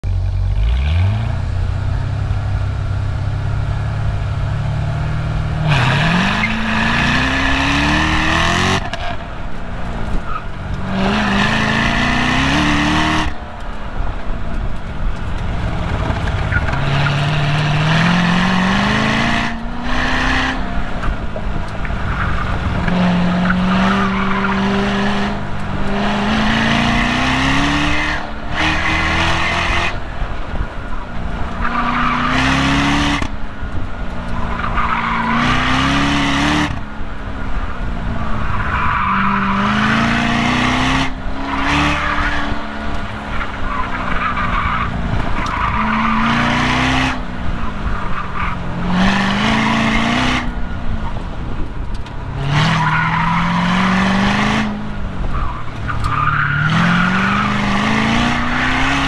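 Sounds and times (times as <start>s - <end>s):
car engine revving: 0.0s - 59.0s
tires squealing: 5.1s - 36.8s, 37.5s - 51.7s, 52.3s - 59.0s.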